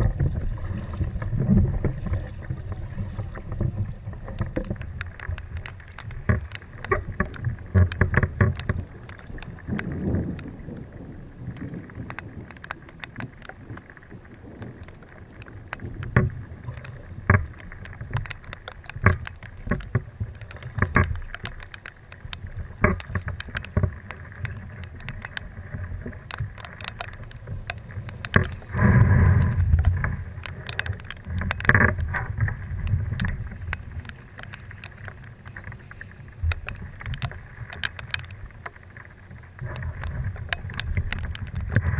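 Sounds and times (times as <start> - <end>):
paddle strokes and water splashes: 0.0 - 41.9
wind rumble on microphone: 0.0 - 41.9.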